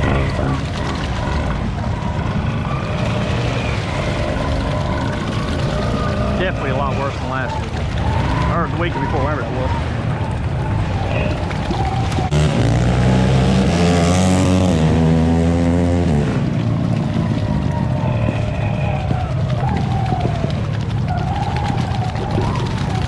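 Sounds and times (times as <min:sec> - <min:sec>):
water sloshing: 0:00.0 - 0:13.5, 0:16.2 - 0:23.0
atv engine revving: 0:00.0 - 0:23.0.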